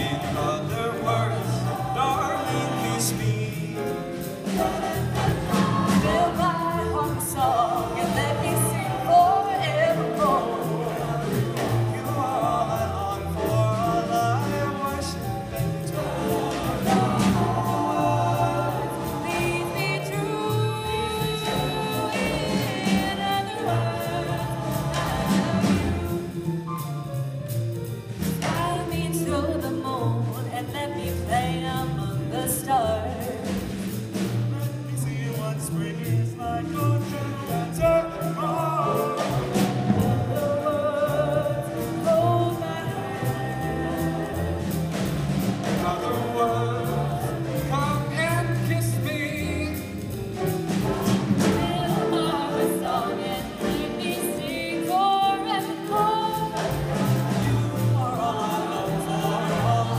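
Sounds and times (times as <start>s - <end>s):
piano accompaniment: 0.0s - 59.9s
vocal ensemble singing in harmony: 0.0s - 59.9s.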